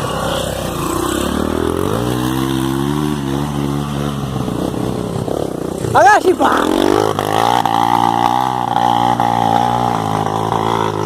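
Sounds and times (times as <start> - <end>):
off-road motorcycle engine under load: 0.0 - 11.0.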